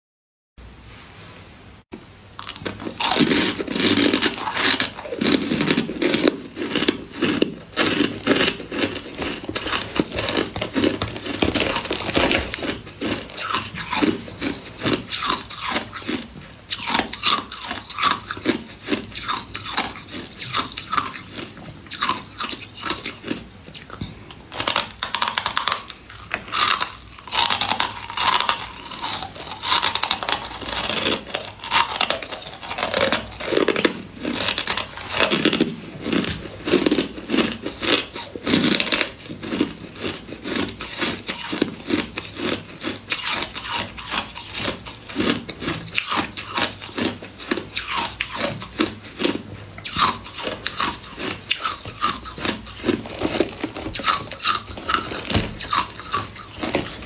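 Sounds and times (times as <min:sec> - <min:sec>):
teeth crunching ice: 0:02.4 - 0:57.0.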